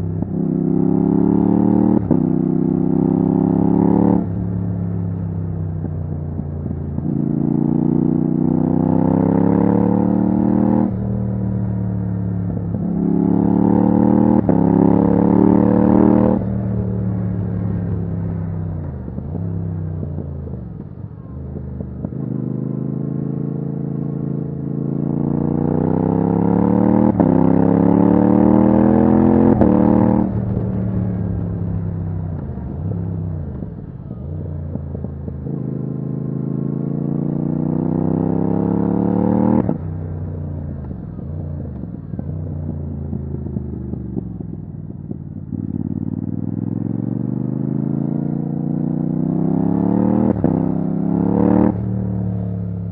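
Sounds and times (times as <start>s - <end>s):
motorcycle engine accelerating hard: 0.0s - 52.9s.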